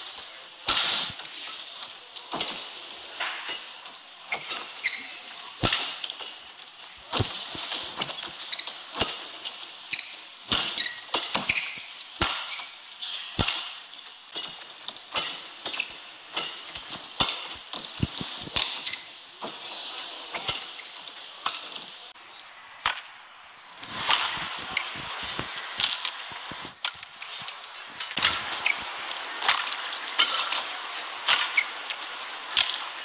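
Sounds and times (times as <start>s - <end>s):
crowd noise hiss: 0.0s - 33.0s.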